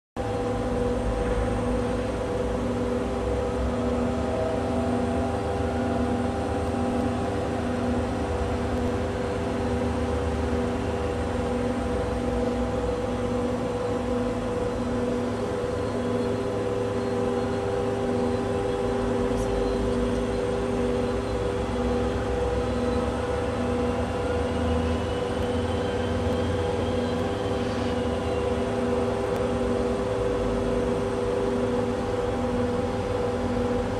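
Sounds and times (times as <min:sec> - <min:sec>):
diesel locomotive engine running: 0:00.2 - 0:33.9.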